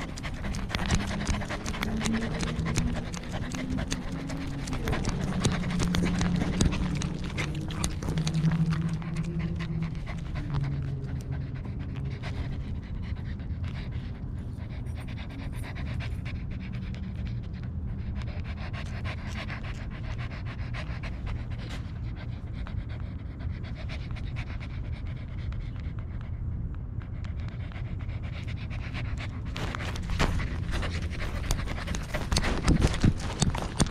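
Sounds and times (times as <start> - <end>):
dog panting: 0.0 - 33.9.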